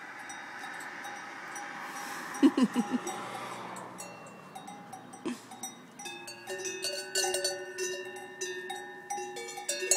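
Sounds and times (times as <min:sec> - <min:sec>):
cowbells clanking and ringing: 0:00.0 - 0:09.9.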